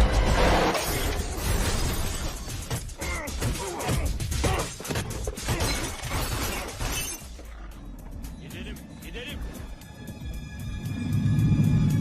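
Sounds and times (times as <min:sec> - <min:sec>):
action film music: 0:00.0 - 0:12.0.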